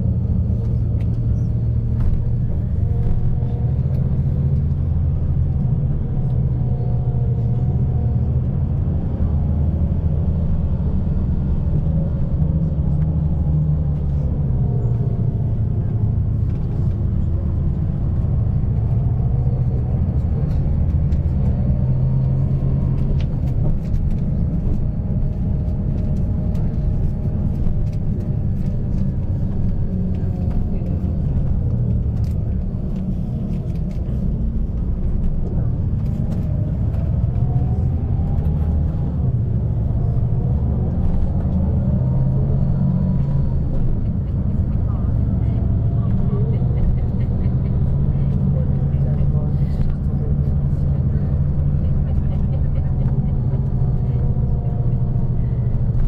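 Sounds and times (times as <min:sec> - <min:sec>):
bus engine hum: 0:00.0 - 0:56.0
road rumble inside bus: 0:00.0 - 0:56.0.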